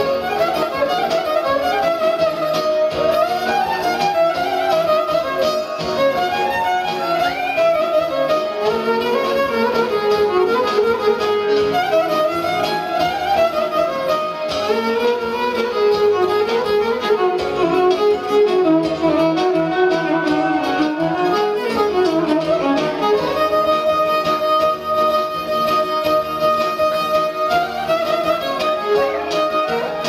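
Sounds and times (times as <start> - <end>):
keyboard accompaniment: 0.0 - 30.0
lute strumming: 0.0 - 30.0
violin melody: 0.0 - 30.0.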